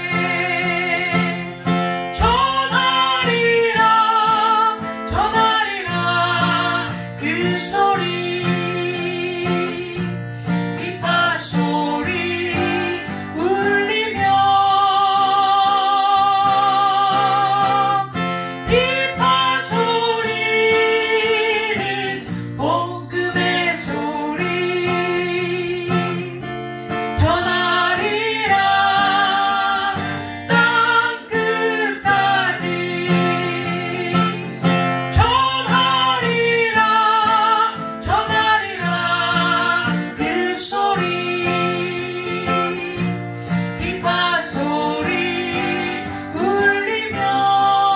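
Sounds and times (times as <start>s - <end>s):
strummed acoustic guitar: 0.0s - 47.9s
woman singing with vibrato: 0.0s - 47.9s.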